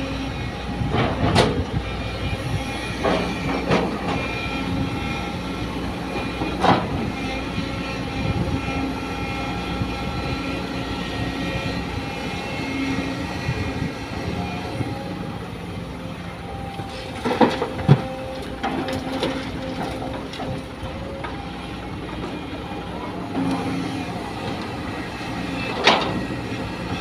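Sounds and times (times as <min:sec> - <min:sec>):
excavator engine and hydraulics whining: 0:00.0 - 0:27.0.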